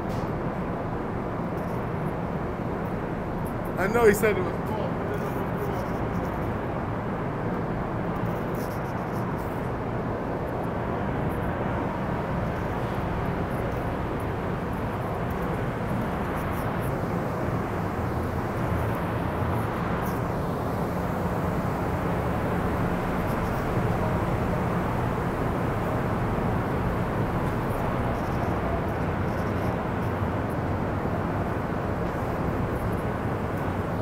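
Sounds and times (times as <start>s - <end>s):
idling trains rumble and hum: 0.0s - 34.0s.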